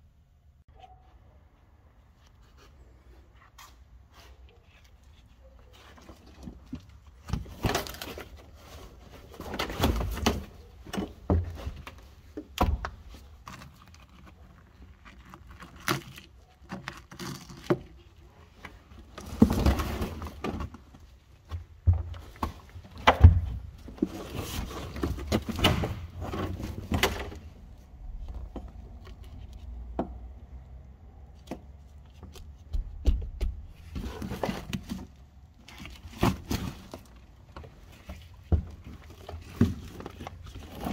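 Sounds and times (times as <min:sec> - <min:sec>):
scraping and rustling: 0:02.1 - 0:30.6, 0:33.6 - 0:40.9.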